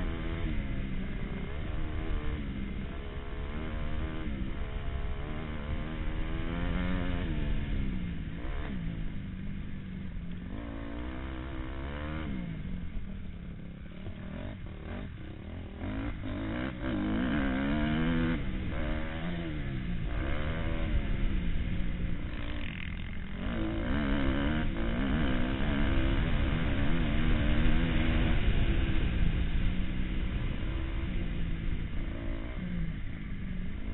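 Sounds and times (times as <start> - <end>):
motocross bike engine revving: 0.0 - 33.9.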